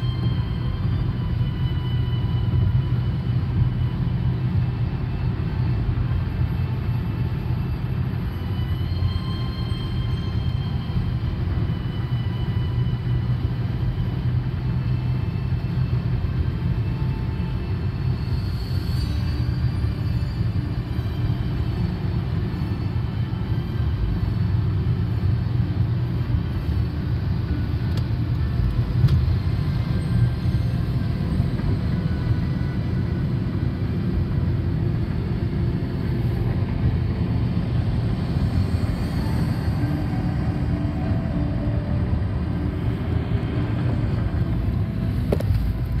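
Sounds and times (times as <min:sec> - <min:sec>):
car road rumble from inside: 0:00.0 - 0:46.0.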